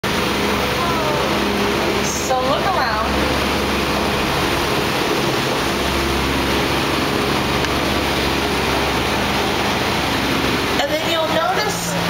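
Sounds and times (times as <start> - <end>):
low hum: 0.0 - 12.0
tram running: 0.0 - 12.0.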